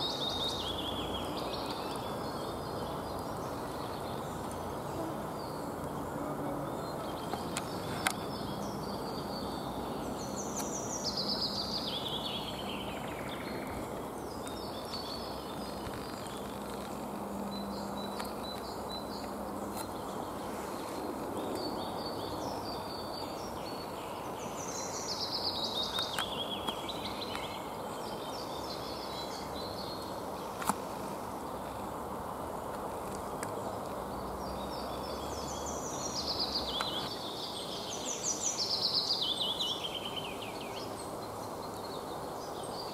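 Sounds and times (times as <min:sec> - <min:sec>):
small bird singing: 0:00.0 - 0:30.8, 0:33.5 - 0:42.9.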